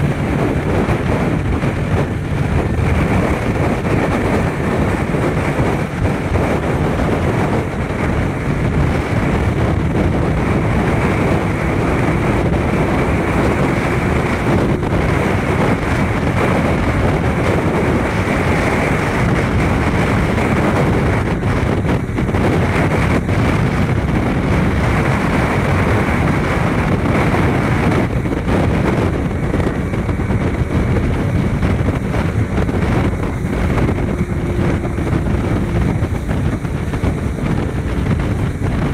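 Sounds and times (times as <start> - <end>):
hull on water: 0.0 - 38.9
outboard motor running: 0.0 - 38.9
wind buffeting microphone: 0.0 - 38.9.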